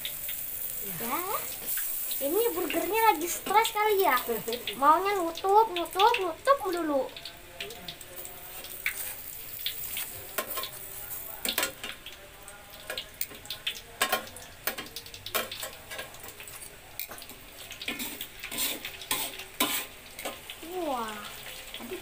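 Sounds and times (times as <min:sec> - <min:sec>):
bun sizzling on grill pan: 0:00.0 - 0:22.0
tongs clicking and scraping pan: 0:01.1 - 0:12.2, 0:12.8 - 0:20.5.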